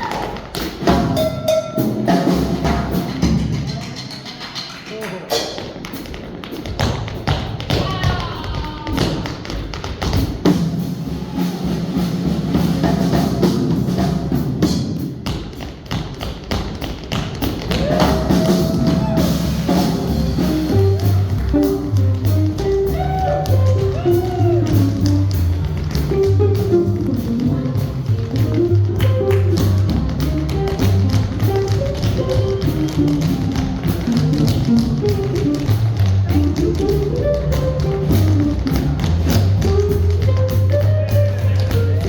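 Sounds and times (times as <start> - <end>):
swing music: 0.0 - 42.0.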